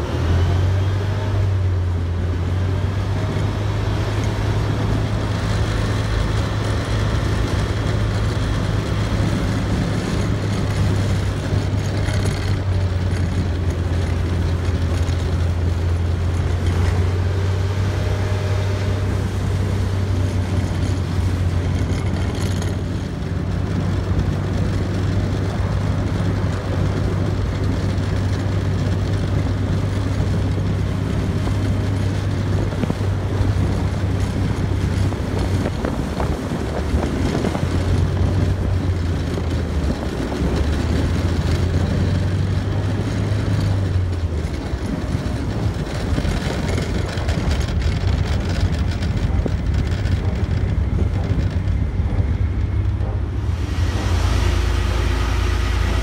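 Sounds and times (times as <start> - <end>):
tracked vehicle engine drone: 0.0 - 56.0
rattling track clatter: 3.2 - 56.0.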